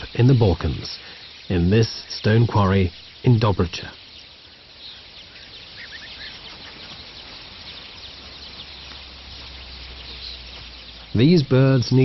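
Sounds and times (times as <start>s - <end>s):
background noise: 0.0s - 12.0s
starlings calling: 0.0s - 12.0s.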